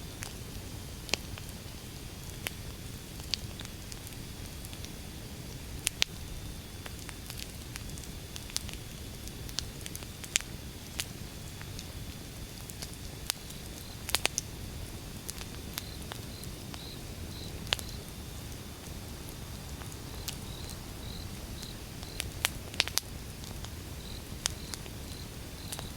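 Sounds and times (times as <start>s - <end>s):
fire crackles and snaps: 0.1s - 25.9s
wood fire rumbling: 0.1s - 25.9s.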